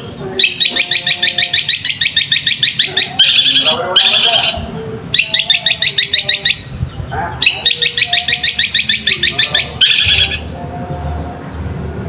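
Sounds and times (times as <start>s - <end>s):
bird harsh chattering calls: 0.0s - 10.5s.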